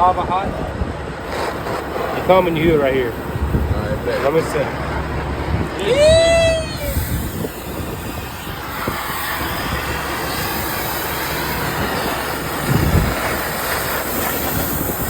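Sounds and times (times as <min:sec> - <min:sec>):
gas torch hissing: 0:00.1 - 0:15.0.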